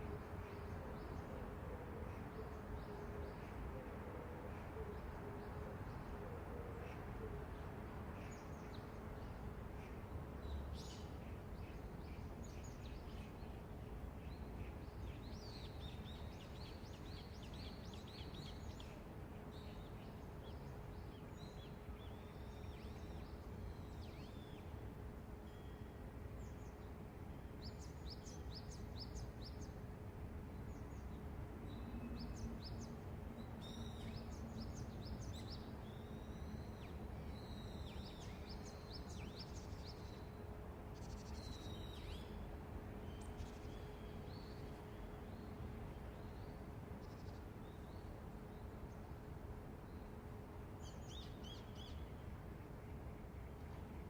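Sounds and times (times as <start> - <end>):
faint constant tone: 0.0 - 54.0.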